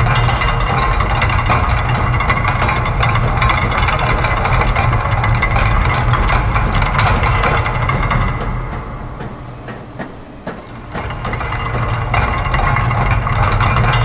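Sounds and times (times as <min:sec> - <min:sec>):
rapid mechanical clicking: 0:00.0 - 0:14.0
steady low hum: 0:00.0 - 0:14.0.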